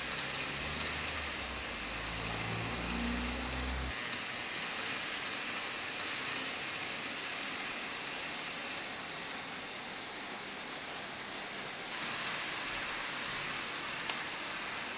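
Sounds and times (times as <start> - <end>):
model train wheels hissing on rails: 0.0 - 14.9.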